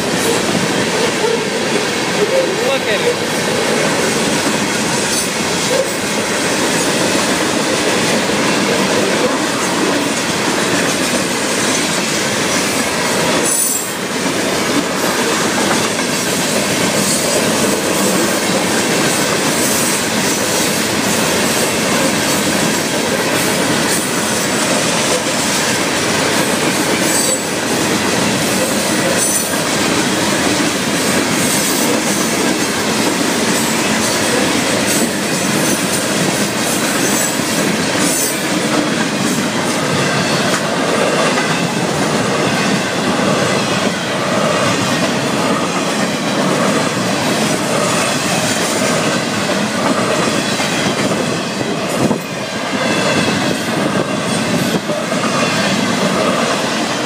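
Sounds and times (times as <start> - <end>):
train wheels clacking over rail joints: 0.0 - 57.0.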